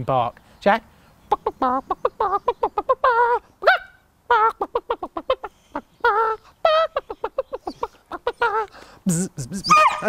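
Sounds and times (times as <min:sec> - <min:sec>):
man imitating chicken clucks: 0:01.3 - 0:10.0.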